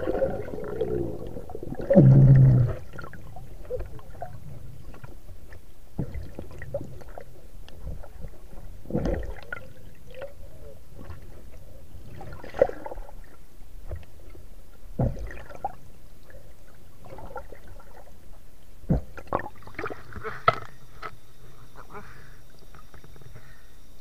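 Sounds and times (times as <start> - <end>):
gurgling water: 0.0 - 24.0
muffled underwater rumble: 0.0 - 24.0.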